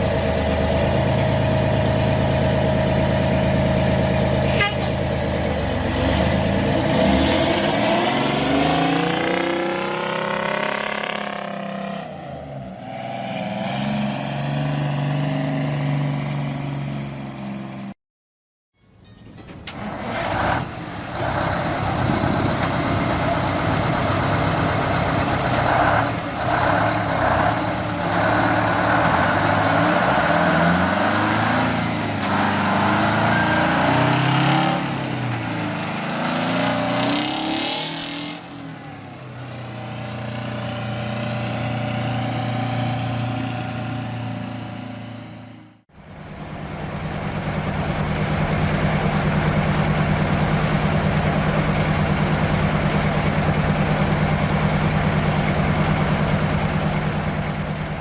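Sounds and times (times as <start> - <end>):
diesel truck engine revving: 0.0 - 17.9, 19.6 - 58.0.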